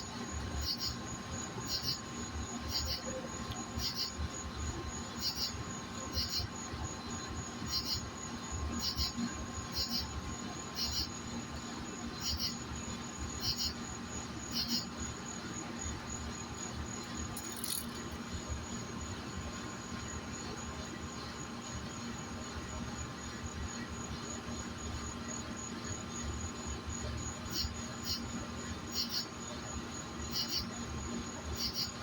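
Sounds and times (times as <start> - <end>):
high insect trill: 0.0 - 32.0
insects chirping: 0.0 - 32.0.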